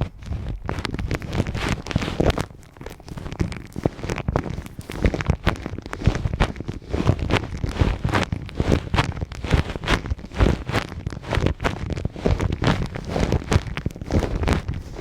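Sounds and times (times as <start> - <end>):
hands rubbing against microphone: 0.0 - 15.0.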